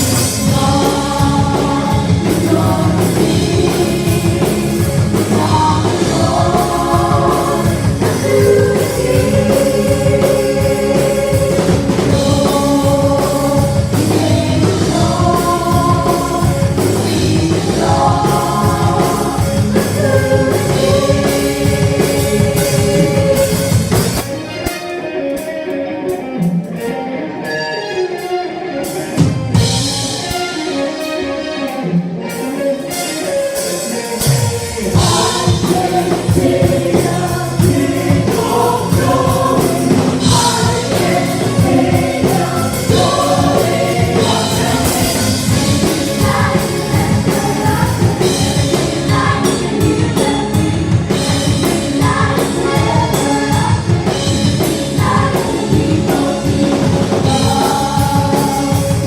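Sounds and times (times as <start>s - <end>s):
choir singing: 0.0s - 24.4s, 33.2s - 59.0s
gospel band playing: 0.0s - 59.0s.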